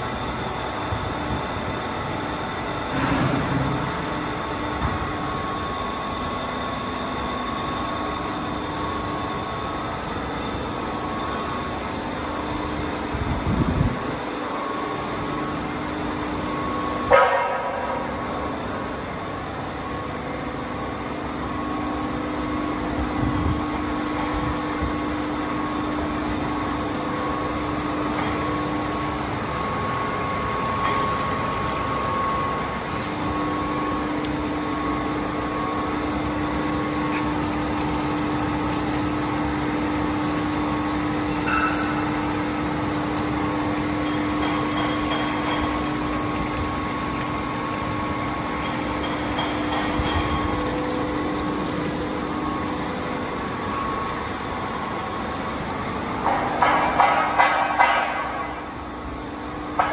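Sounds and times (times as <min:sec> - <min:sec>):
grinder machine humming: 0:00.0 - 0:59.9.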